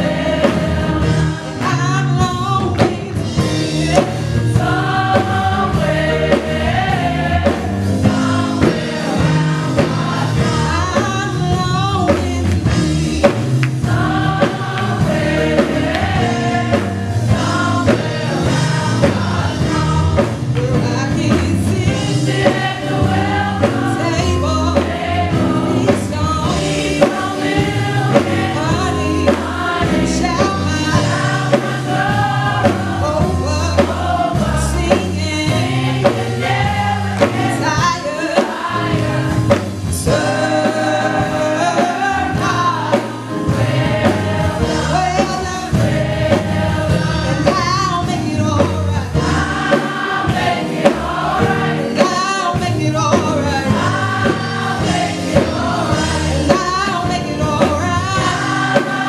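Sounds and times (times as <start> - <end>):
choir singing: 0.0 - 2.2, 2.9 - 20.4, 21.8 - 48.1, 49.0 - 59.0.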